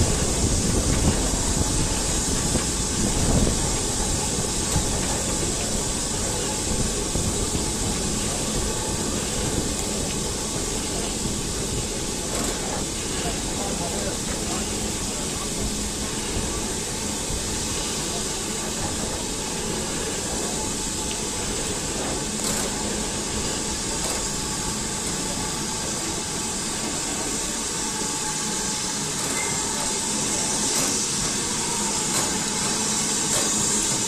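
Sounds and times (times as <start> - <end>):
steam hissing: 0.0 - 34.0
train rumbling on rails: 0.0 - 34.0.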